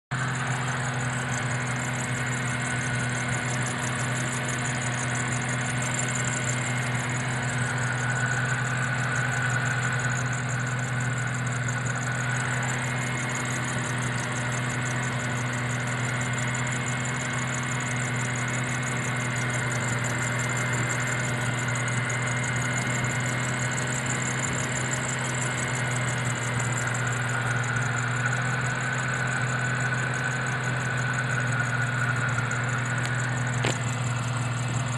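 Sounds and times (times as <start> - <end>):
car engine idling: 0.1 - 34.9
supercharger belt squealing: 0.1 - 34.9.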